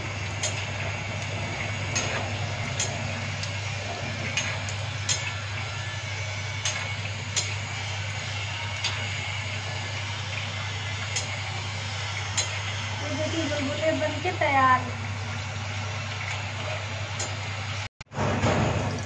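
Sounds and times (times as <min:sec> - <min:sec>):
oil sizzling in wok: 0:00.0 - 0:19.0.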